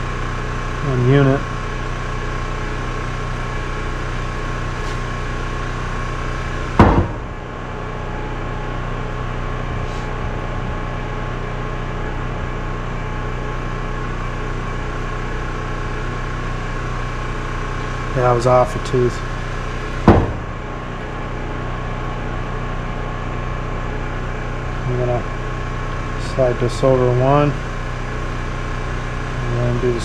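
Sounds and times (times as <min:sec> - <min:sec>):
background hum with tones: 0:00.0 - 0:30.0.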